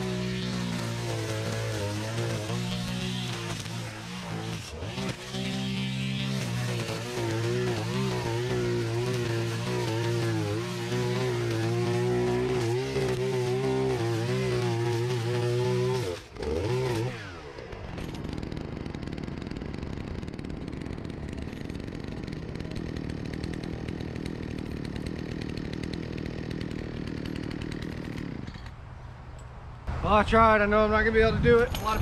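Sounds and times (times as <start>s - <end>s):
string trimmer engine running: 0.0s - 28.7s.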